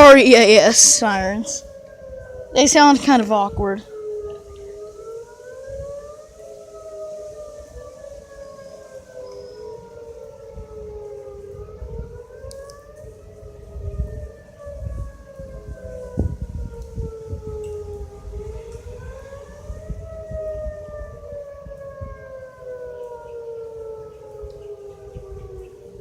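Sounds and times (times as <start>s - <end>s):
warning sirens wailing: 0.0s - 26.0s.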